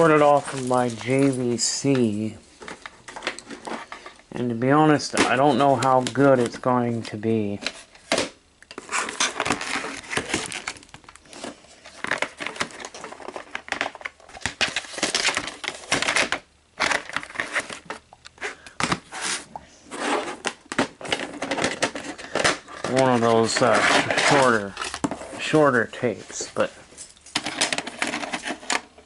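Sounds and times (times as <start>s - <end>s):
plastic crinkling and clicking: 0.0s - 19.1s, 20.4s - 25.6s, 26.3s - 29.0s.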